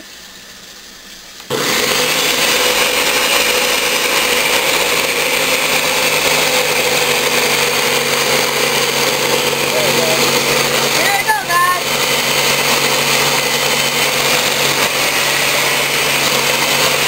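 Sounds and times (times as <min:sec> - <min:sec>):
blender chopping frozen fruit: 0:01.4 - 0:17.0.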